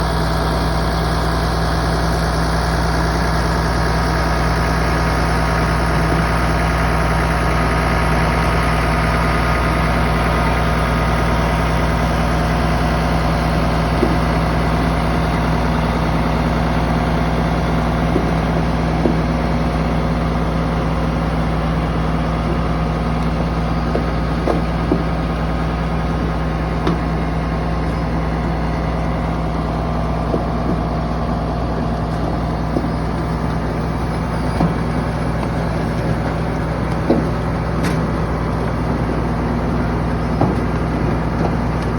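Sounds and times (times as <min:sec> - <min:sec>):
machinery engine running: 0:00.0 - 0:41.9.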